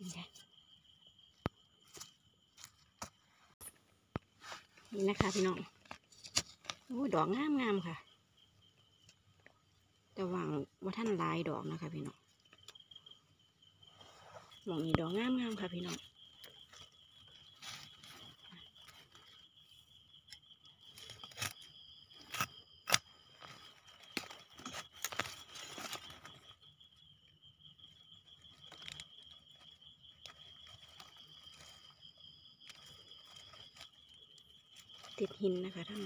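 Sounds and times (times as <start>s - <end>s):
high insect trill: 0.0s - 36.0s
soil and leaves rustling: 0.0s - 36.0s.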